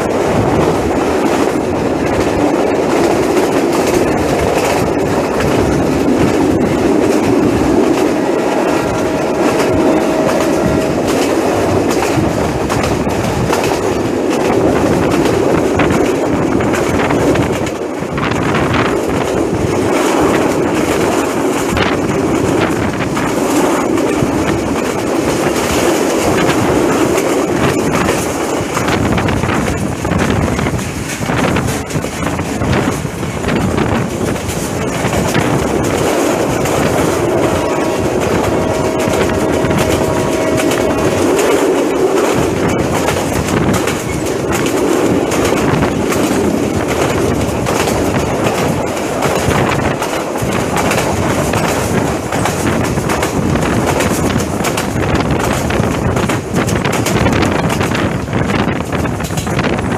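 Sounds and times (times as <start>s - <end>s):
train wheels rushing and rattling: 0.0s - 59.9s.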